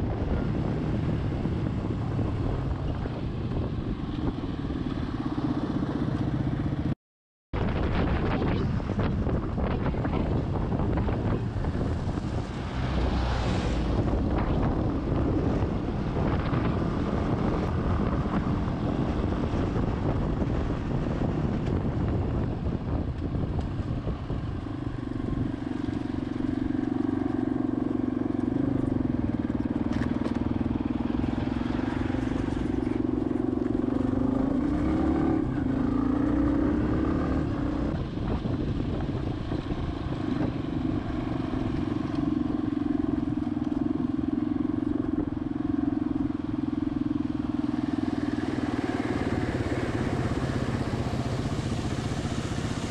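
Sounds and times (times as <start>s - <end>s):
wind on microphone: 0.0s - 6.9s, 7.6s - 52.9s
motorcycle engine cruising: 0.0s - 7.0s, 7.6s - 52.9s.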